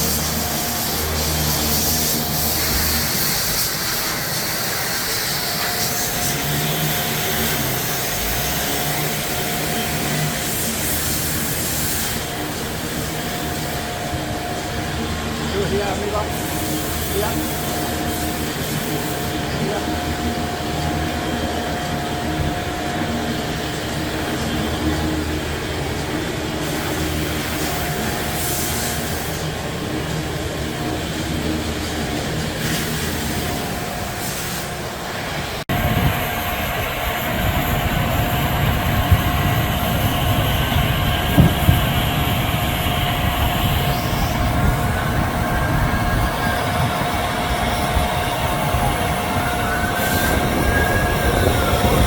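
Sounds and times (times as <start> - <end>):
deep machinery rumble: 0.0 - 52.0
machinery high whine: 0.0 - 52.0.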